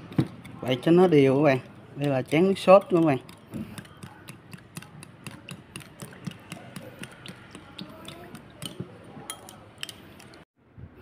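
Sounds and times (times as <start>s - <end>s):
metal spoon clinking ceramic bowl: 0.9s - 10.4s.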